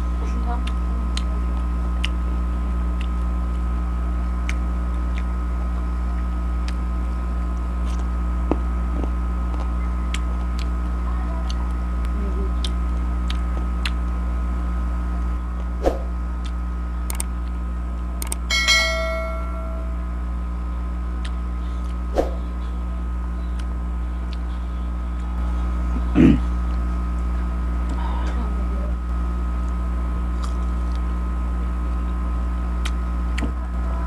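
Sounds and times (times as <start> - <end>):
low electrical hum: 0.0 - 34.0
crisp chewing and mouth sounds: 0.5 - 18.4, 20.9 - 25.9, 29.0 - 33.8.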